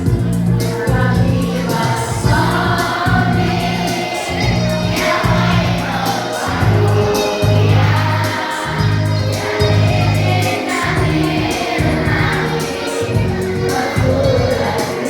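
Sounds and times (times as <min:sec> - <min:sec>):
choir singing: 0:00.5 - 0:15.0.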